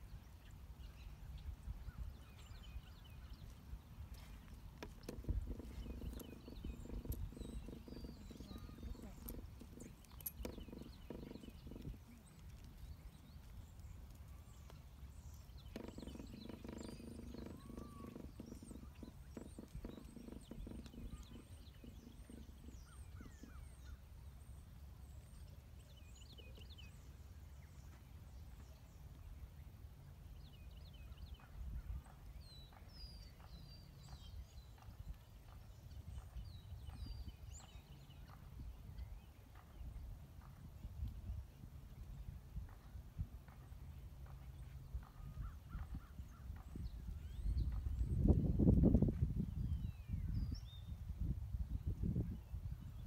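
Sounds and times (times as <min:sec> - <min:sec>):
small birds chirping: 0:00.0 - 0:53.0
wind rumble on microphone: 0:00.0 - 0:53.0.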